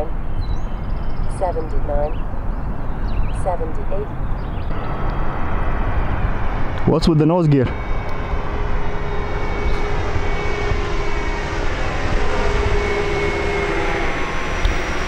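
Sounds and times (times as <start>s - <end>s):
model jet engines droning: 0.0s - 15.0s.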